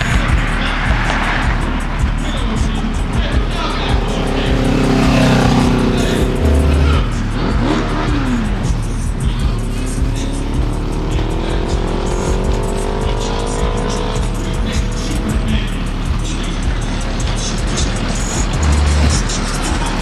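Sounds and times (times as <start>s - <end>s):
engine accelerating: 0.0s - 20.0s
music with bass beat: 0.0s - 20.0s
vehicles going by: 0.0s - 20.0s.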